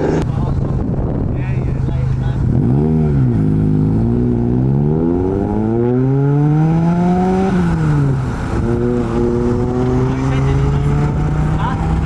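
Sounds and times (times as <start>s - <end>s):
car engine accelerating: 0.0s - 0.9s, 1.5s - 12.0s.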